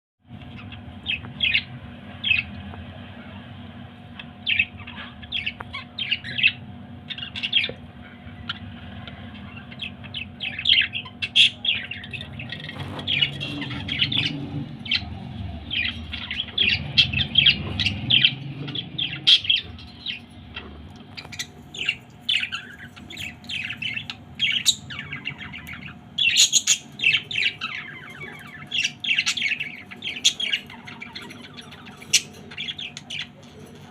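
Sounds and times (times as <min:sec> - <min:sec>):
steady low hum: 0:00.2 - 0:33.9
parrots squawking and chirping: 0:00.4 - 0:33.9.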